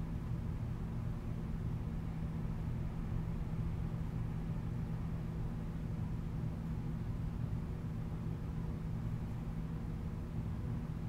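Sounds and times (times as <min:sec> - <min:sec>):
faint even hum: 0:00.0 - 0:11.0.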